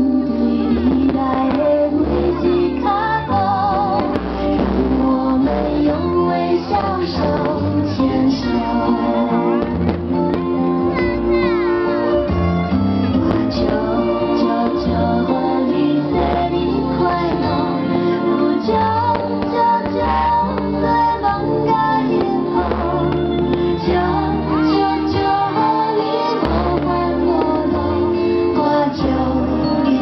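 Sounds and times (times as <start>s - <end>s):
woman singing a song: 0.0s - 9.7s, 13.2s - 30.0s
sustained chords and bass line: 0.0s - 30.0s.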